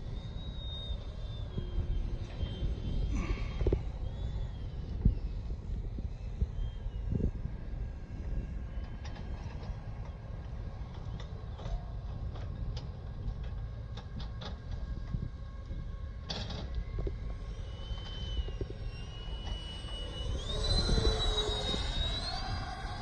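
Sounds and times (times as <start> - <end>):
model jet electric motor whining: 0.0 - 23.0
steady low rumble: 0.0 - 23.0.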